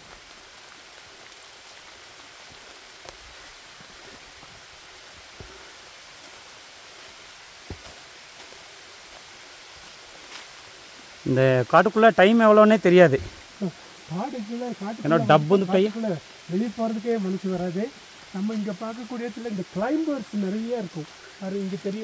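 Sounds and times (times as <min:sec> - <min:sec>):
forest ambience hiss: 0:00.0 - 0:22.0.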